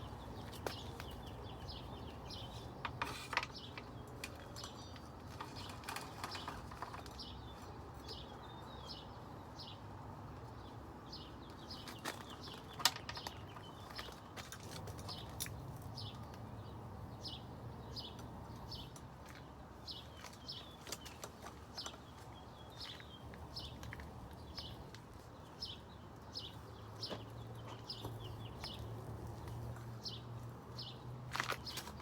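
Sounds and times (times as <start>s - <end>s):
bird chirping: 0.0s - 9.8s, 10.6s - 32.0s.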